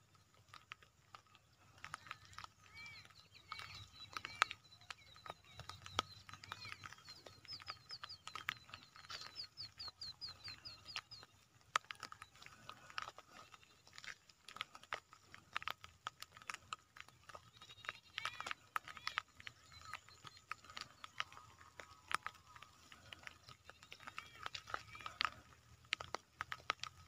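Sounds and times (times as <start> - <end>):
scattered clicks and crackles: 0.0 - 27.0
animal calls: 0.3 - 26.9.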